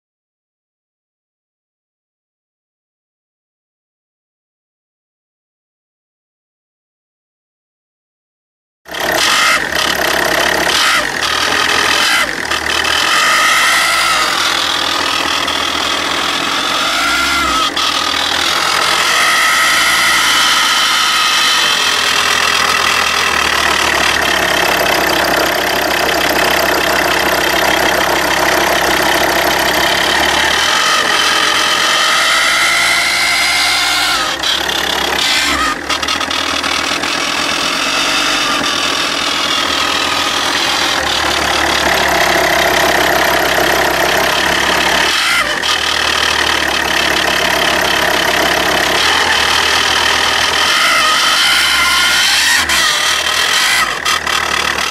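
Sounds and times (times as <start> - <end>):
diesel engine idling: 8.9 - 54.9.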